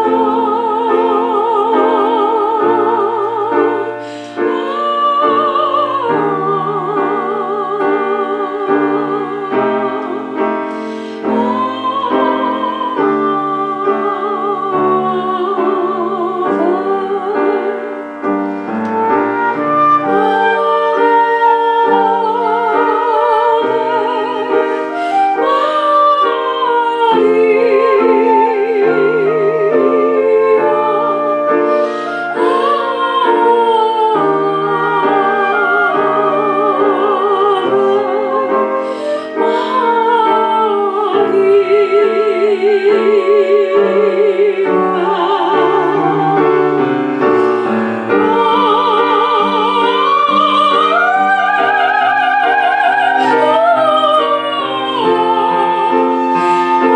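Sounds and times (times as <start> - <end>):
classical-style acoustic music: 0.0 - 56.9.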